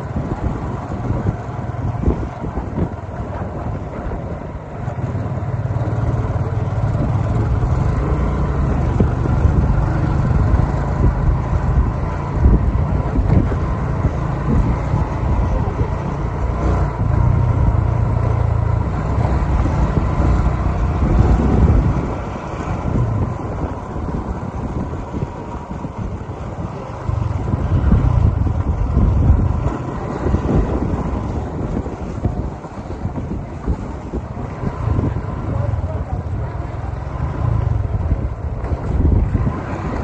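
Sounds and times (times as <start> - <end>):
motor vehicle engine rumble: 0.0 - 40.0.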